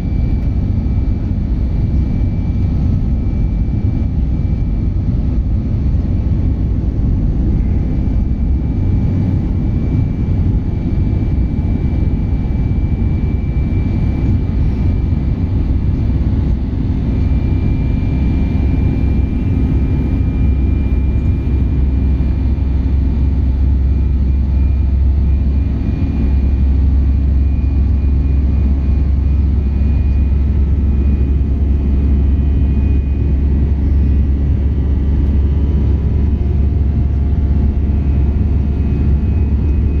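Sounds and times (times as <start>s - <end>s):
aircraft cabin drone: 0.0s - 40.0s
faint high whine: 0.0s - 40.0s.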